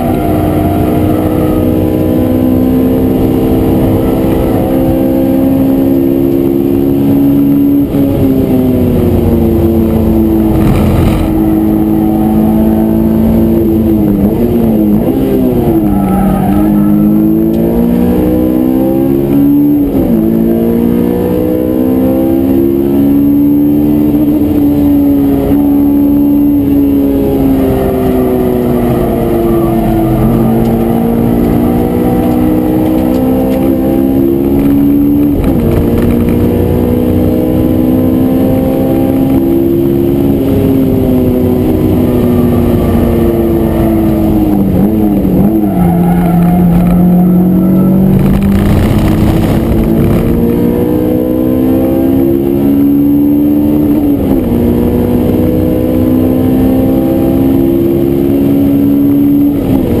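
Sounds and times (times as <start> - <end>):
car engine revving: 0.0 - 60.0.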